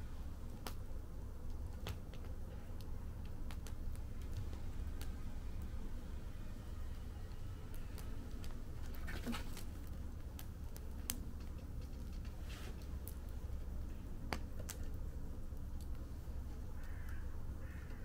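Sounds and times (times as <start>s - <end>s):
burning wood popping: 0.0s - 18.0s
wood fire crackling: 0.0s - 18.0s.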